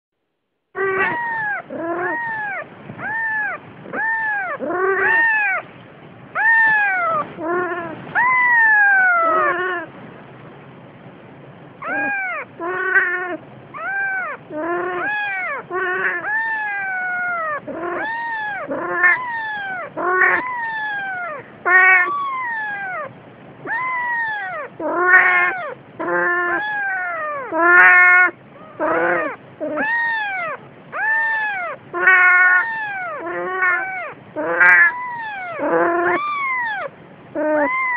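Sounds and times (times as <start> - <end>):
kitten mewing: 0.8 - 5.7, 6.3 - 9.9, 11.8 - 37.9.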